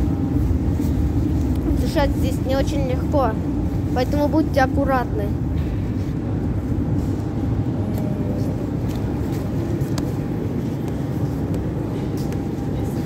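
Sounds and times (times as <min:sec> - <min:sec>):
low rumble of metro station: 0:00.0 - 0:13.0.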